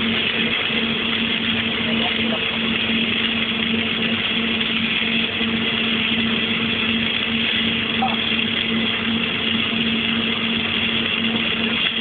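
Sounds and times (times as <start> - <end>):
welding hiss: 0.0 - 12.0
welding machine humming: 0.0 - 12.0.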